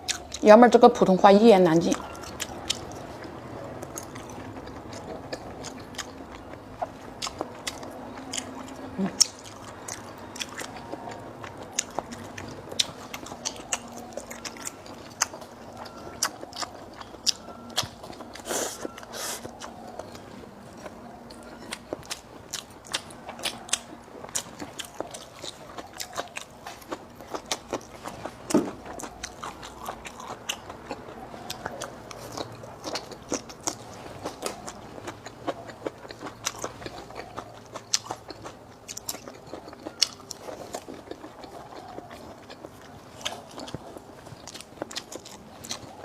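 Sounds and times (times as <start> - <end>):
person chewing with wet clicks: 0.0 - 0.8, 1.7 - 46.0.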